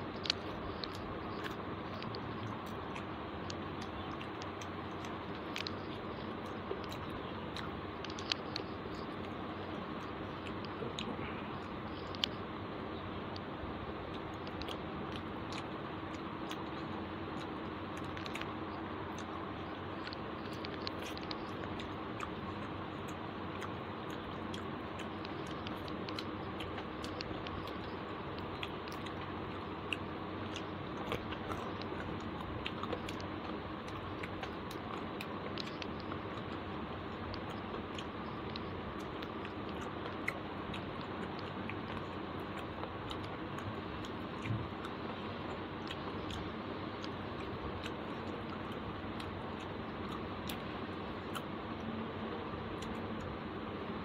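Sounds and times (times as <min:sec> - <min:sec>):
person chewing food: 0:00.0 - 0:53.4
mouth clicks and smacks: 0:00.0 - 0:53.8
background hiss and hum: 0:00.0 - 0:54.0.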